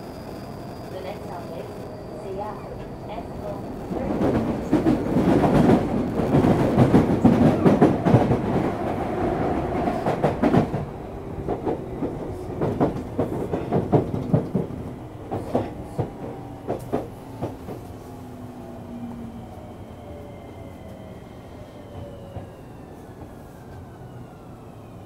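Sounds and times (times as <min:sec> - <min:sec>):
low train rumble: 0:00.0 - 0:25.0.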